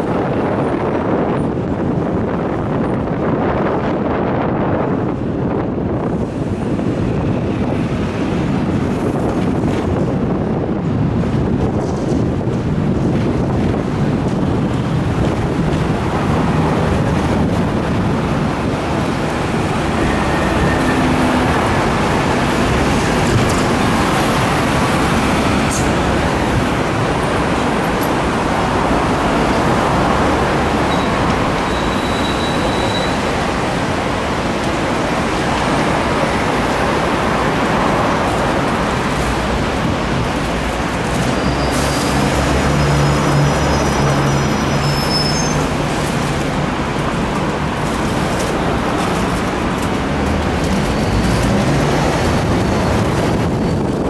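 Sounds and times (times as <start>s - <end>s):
road traffic: 0.0s - 54.0s
tram running noise: 0.0s - 54.0s.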